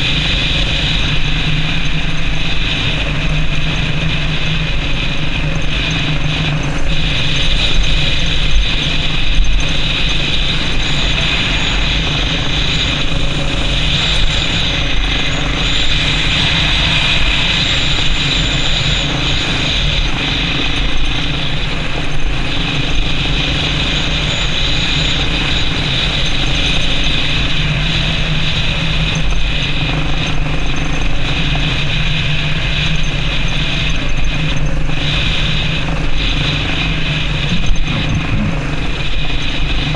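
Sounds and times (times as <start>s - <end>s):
mechanical rattle: 0.0s - 39.9s
motorcycle engine running: 0.0s - 39.9s.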